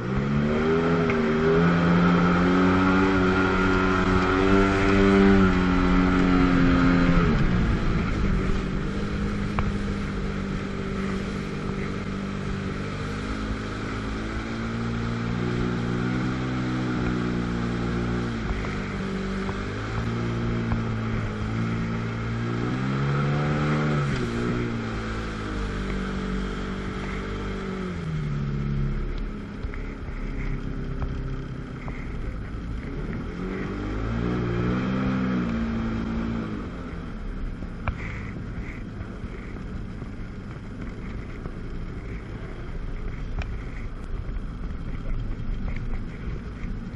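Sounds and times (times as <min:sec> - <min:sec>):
jet ski engine revving: 0:00.0 - 0:46.9.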